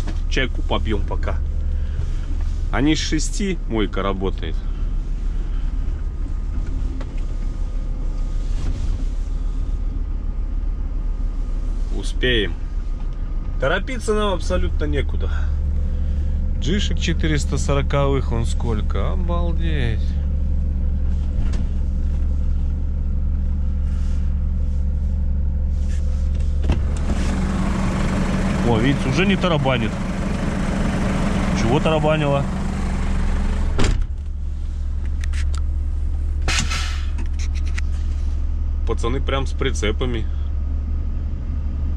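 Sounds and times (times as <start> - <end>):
truck diesel engine rumbling: 0.0 - 41.9.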